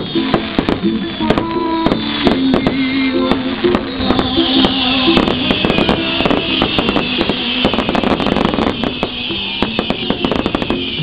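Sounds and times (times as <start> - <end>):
fireworks bursting and crackling: 0.0 - 11.0
music playing: 0.0 - 11.0.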